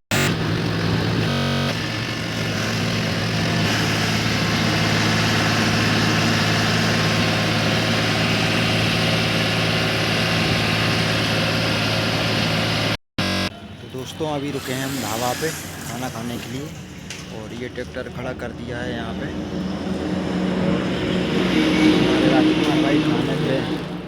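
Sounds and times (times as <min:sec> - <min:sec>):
tractor diesel engine running: 0:00.1 - 0:24.0.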